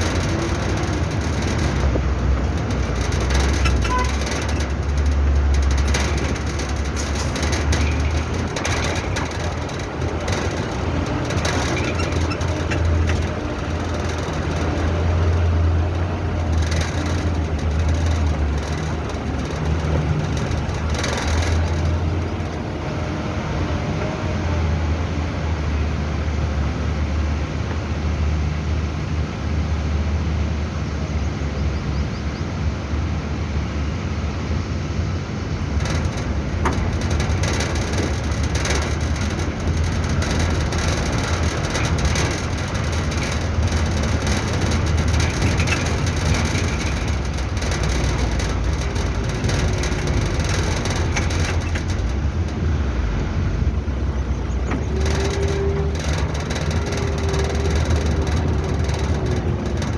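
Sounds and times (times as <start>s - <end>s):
rattling and clatter: 0.0s - 25.9s, 35.4s - 59.9s
diesel truck engine rumbling: 0.0s - 59.9s.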